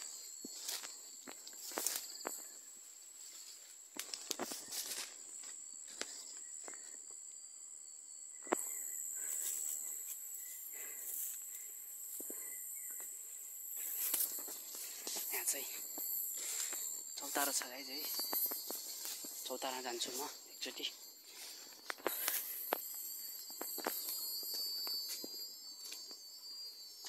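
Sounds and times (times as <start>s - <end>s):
footsteps through undergrowth: 0.0s - 6.9s, 9.3s - 11.5s, 12.1s - 26.1s
high-pitched insect drone: 0.0s - 27.0s.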